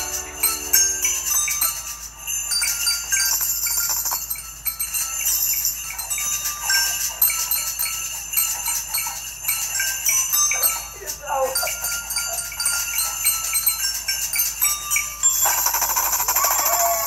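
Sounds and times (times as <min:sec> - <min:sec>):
jingle bells and maracas shaking: 0:00.0 - 0:17.0.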